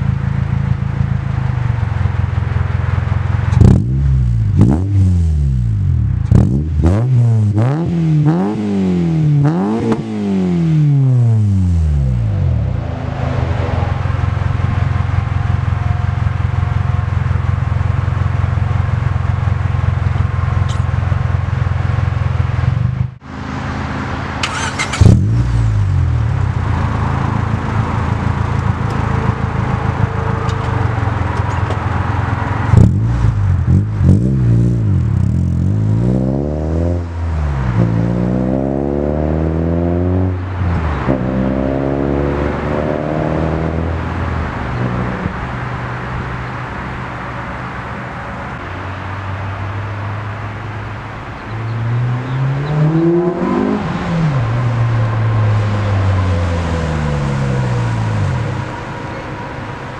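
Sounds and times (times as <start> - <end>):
car engine idling and accelerating: 0.0 - 59.9.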